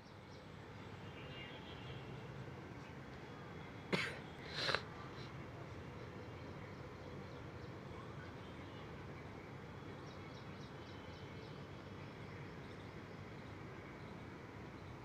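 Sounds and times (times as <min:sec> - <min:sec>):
distant city noise: 0:00.0 - 0:15.0.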